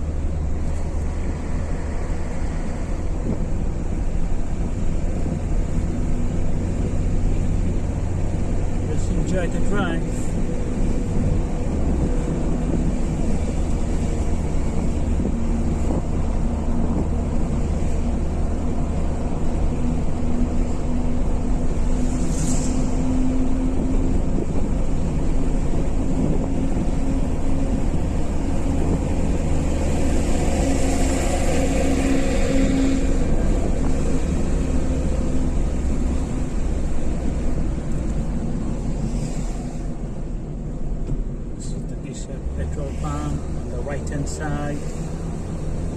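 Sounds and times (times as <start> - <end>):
car cabin hum: 0.0 - 21.8, 23.1 - 39.2
tyre and engine rumble: 0.0 - 45.9.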